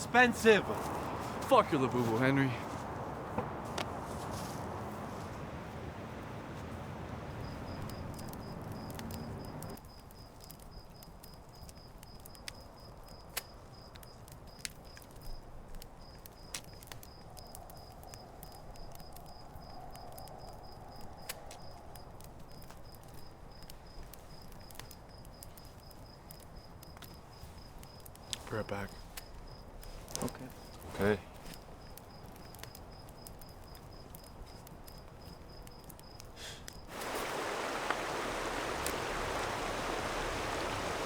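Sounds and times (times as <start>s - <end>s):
cricket chirping: 0.0s - 41.0s.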